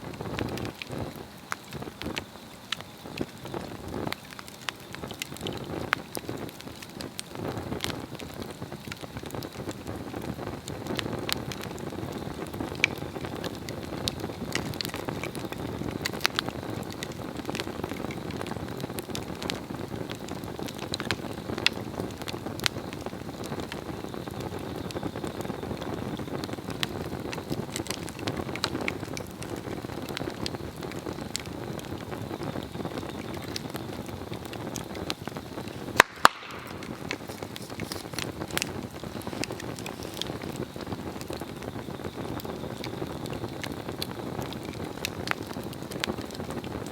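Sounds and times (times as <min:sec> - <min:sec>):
fire crackling: 0:00.0 - 0:46.9
log fire burning: 0:00.0 - 0:46.9
loud pops from fire: 0:00.0 - 0:46.9.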